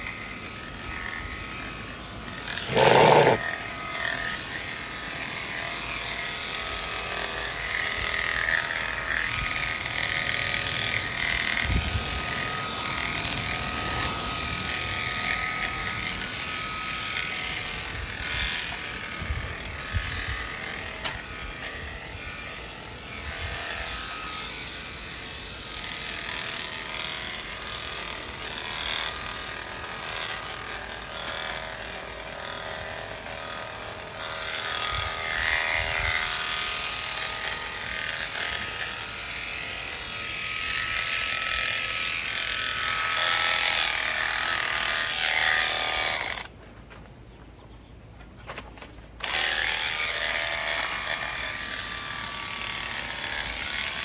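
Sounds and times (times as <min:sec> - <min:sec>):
clippers rasping through wool: 0:00.0 - 0:46.6, 0:49.2 - 0:54.0
electric clippers motor whine: 0:00.0 - 0:46.6, 0:49.2 - 0:54.0.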